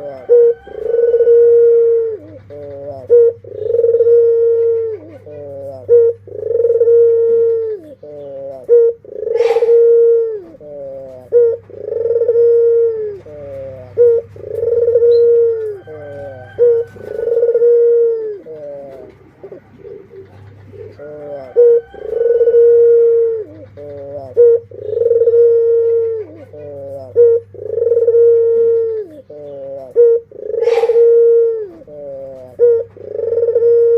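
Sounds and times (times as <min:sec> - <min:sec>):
doves cooing: 0:00.0 - 0:33.9.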